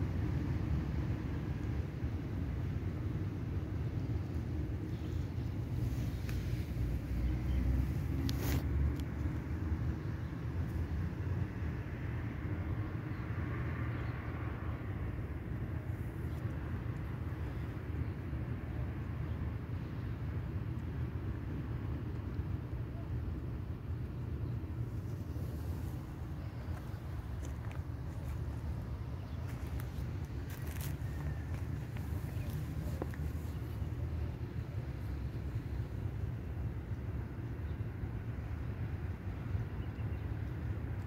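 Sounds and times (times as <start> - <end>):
low outdoor rumble: 0.0 - 41.0.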